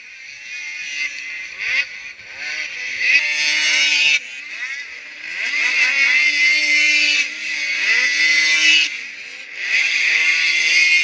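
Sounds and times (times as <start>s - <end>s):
snowmobile engines revving: 0.0s - 11.0s.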